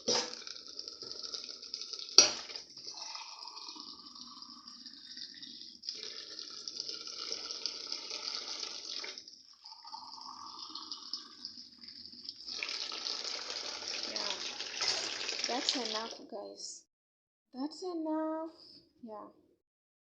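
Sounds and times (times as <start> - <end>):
water running into pot: 0.0 - 16.3.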